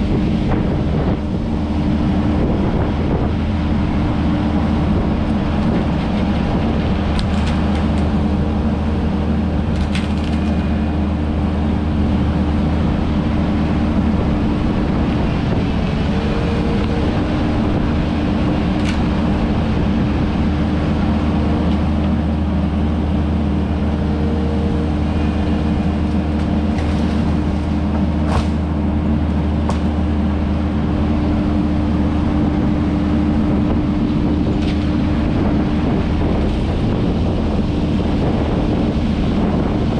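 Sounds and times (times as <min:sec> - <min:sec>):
loader diesel engine running: 0:00.0 - 0:39.9.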